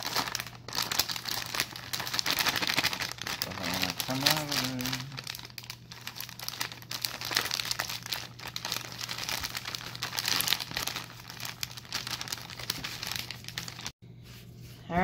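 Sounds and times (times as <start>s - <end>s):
plastic pouch crinkling: 0.0s - 13.9s.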